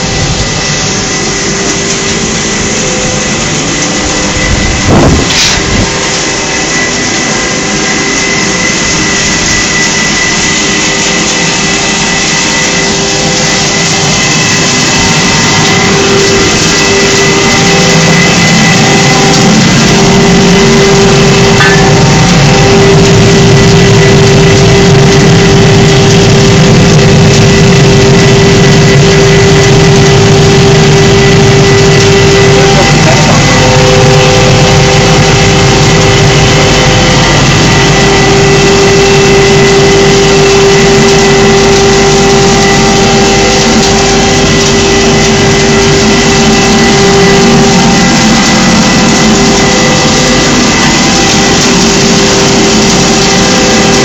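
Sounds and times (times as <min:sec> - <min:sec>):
blower fan and motor noise: 0:00.0 - 0:54.0
constant humming tone: 0:00.0 - 0:54.0.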